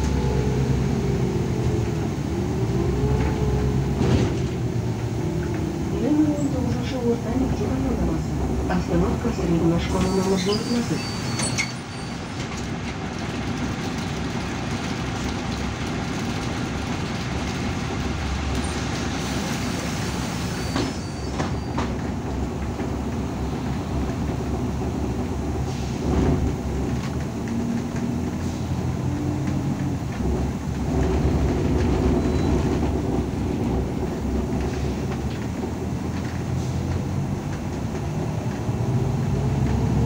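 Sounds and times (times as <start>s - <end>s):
bus engine rumble: 0.0s - 40.0s.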